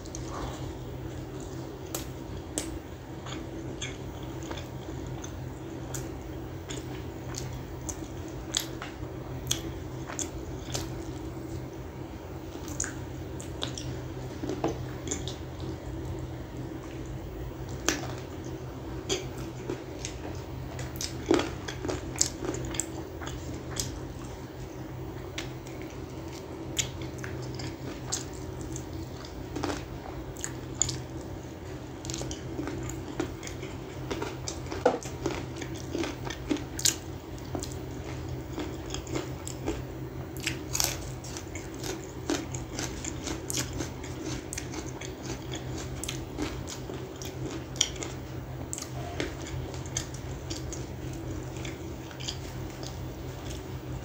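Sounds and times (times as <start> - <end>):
chewing and biting chicken: 0.0 - 11.8, 12.4 - 54.0
steady low hum: 0.0 - 54.0.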